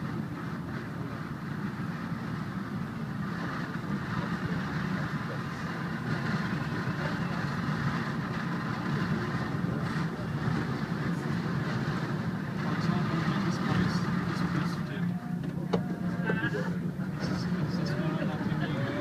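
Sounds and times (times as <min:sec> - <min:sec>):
cable car cabin humming: 0:00.0 - 0:19.0.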